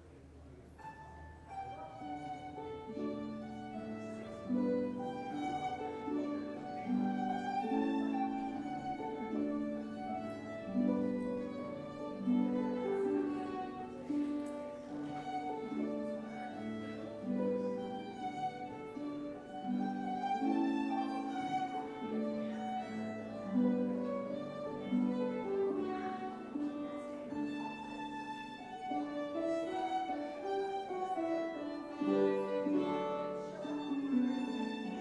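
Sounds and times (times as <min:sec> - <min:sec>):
plucked harp: 0:00.8 - 0:35.0
violin melody: 0:00.8 - 0:35.0.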